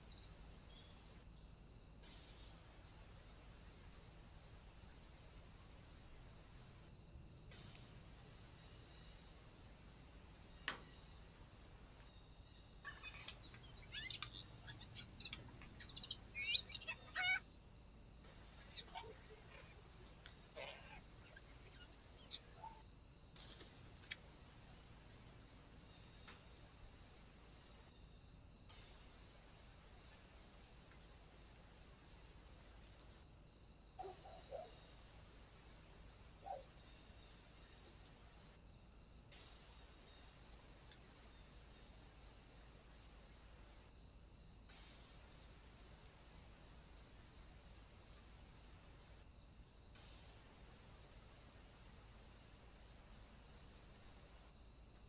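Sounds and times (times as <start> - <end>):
faint insects chirring: 0.0 - 55.0.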